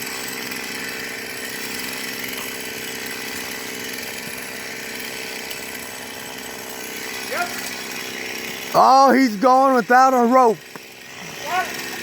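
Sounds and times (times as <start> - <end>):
distant chainsaw running: 0.0 - 12.0.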